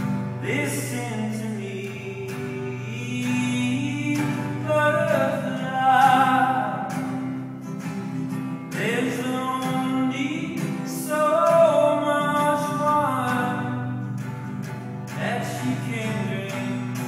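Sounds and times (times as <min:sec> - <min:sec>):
acoustic guitar strumming: 0:00.0 - 0:17.0
man singing: 0:00.4 - 0:07.3, 0:08.6 - 0:14.2, 0:15.1 - 0:17.0.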